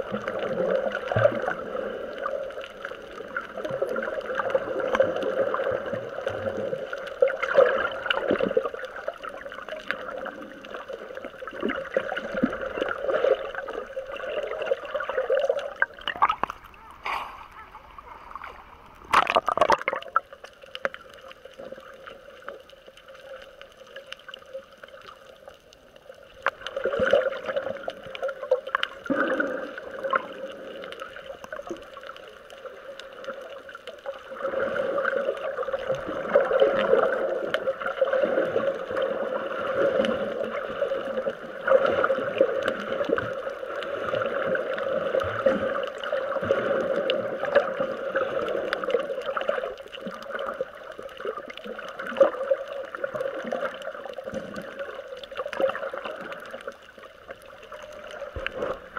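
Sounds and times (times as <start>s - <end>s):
muffled underwater noise: 0.0s - 58.9s
water sloshing and splashing: 0.0s - 58.9s.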